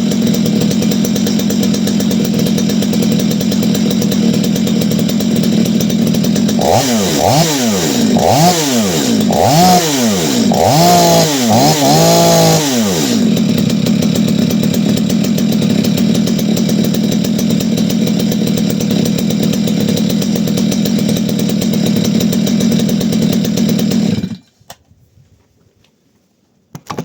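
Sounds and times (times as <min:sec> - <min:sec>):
chainsaw idling: 0:00.0 - 0:24.5.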